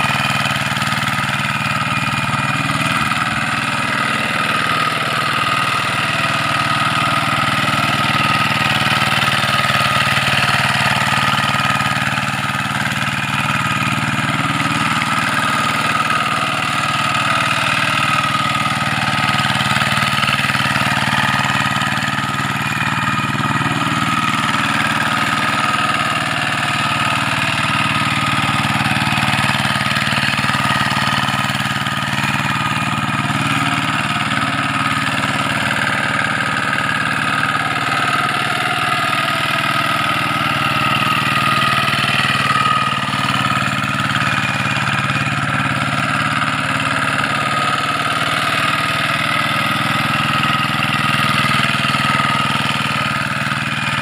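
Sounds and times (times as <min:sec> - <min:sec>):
hand tractor engine running: 0:00.0 - 0:54.0.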